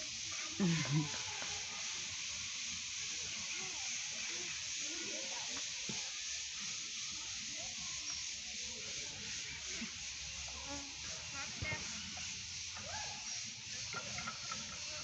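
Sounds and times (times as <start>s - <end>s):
faint distant voices: 0.0s - 15.0s
steady high hiss: 0.0s - 15.0s.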